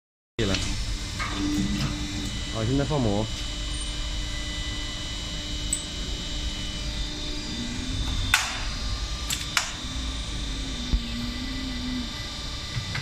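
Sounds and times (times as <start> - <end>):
electrical hum of press: 0.4 - 13.0.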